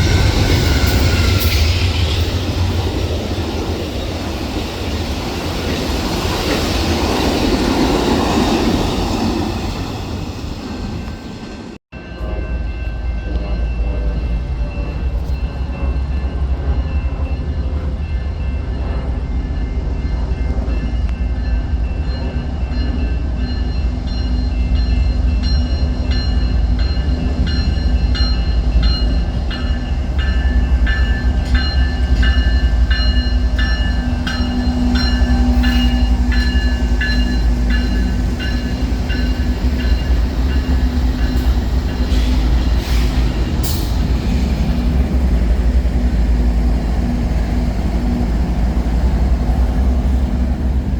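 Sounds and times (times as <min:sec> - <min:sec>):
train passing rumble: 0:00.0 - 0:50.9.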